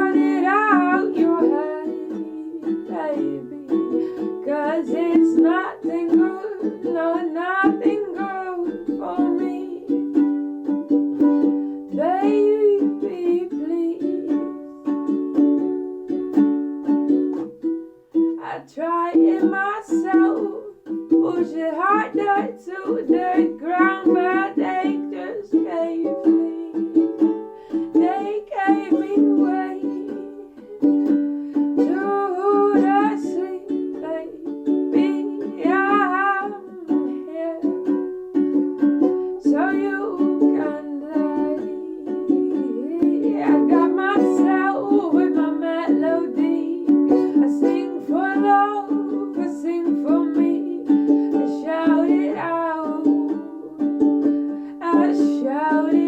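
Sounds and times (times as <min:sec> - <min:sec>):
person singing: 0:00.0 - 0:56.0
ukulele playing: 0:00.0 - 0:56.0.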